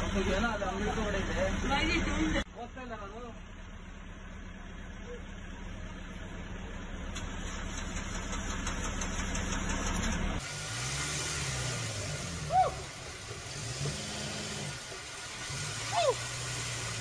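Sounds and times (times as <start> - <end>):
vehicle engines idling: 0.0 - 17.0.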